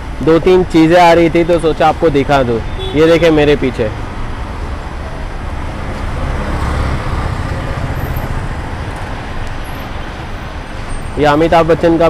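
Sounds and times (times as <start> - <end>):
road noise from passing vehicles: 0.0 - 12.0.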